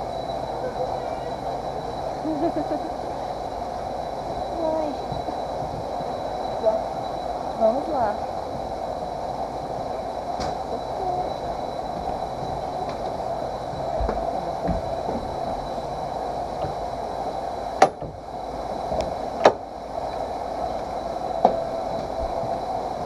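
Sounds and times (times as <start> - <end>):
roller coaster mechanical hum: 0.0 - 23.0.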